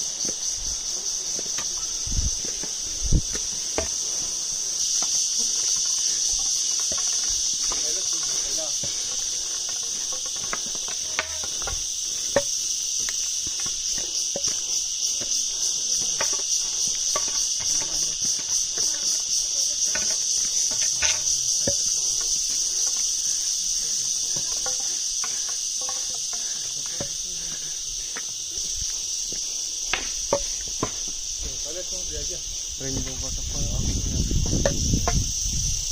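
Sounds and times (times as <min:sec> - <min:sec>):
footsteps on stone steps: 0:00.0 - 0:31.6
insects droning shrilly: 0:00.0 - 0:35.9.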